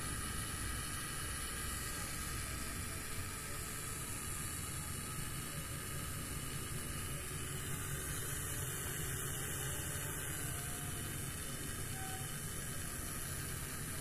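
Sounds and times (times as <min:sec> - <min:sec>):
fogging machine hiss: 0:00.0 - 0:14.0
small motor humming: 0:00.0 - 0:14.0.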